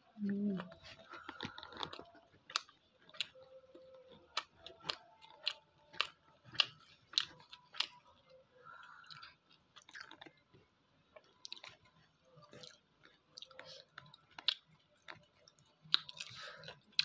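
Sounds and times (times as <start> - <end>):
person chewing with wet smacks: 0.0 - 17.0.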